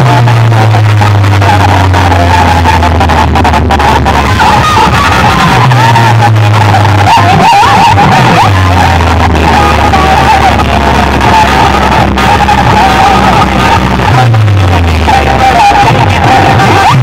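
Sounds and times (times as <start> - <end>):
loud dj remix music: 0.0 - 17.0.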